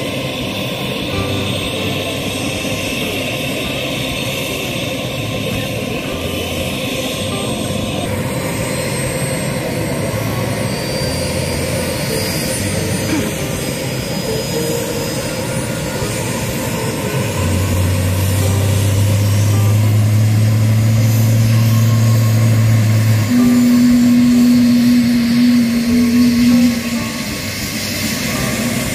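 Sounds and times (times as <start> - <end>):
helicopter turbine whine: 0.0 - 28.9
low drone: 0.0 - 28.9.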